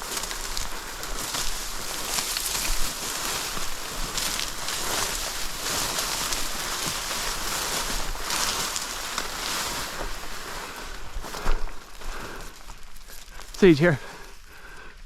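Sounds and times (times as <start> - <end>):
dry grass swishing and crackling: 0.0 - 14.5.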